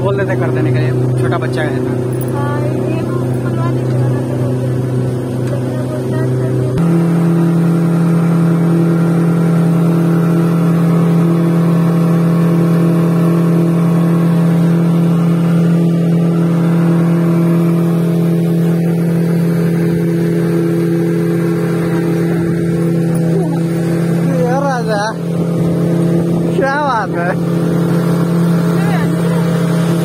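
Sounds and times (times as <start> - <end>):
outboard motor drone: 0.0 - 30.0
rushing wake: 0.0 - 30.0
wind: 0.0 - 30.0.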